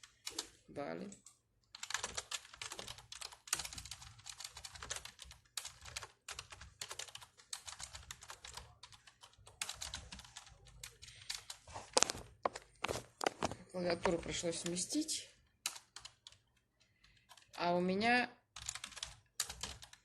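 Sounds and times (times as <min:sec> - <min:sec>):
typing on a computer keyboard: 0:00.0 - 0:12.3, 0:15.4 - 0:17.8, 0:18.5 - 0:20.0.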